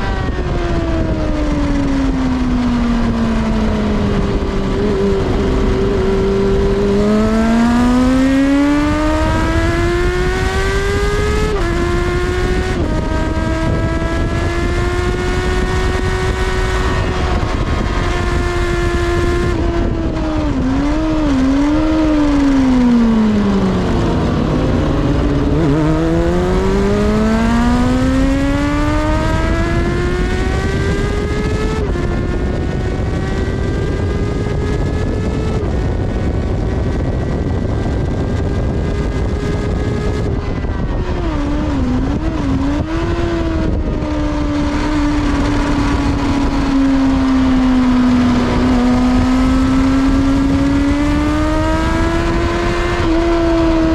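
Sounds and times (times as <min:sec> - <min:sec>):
motorcycle engine revving: 0:00.0 - 0:53.9
wind rush: 0:00.0 - 0:53.9.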